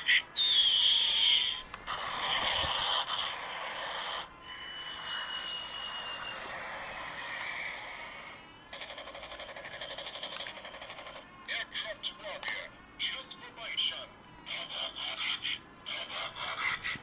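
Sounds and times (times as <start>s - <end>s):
fast beeping pulses: 0.1s - 17.0s
electronic buzzing: 0.3s - 17.0s
high electronic tone: 0.4s - 15.0s.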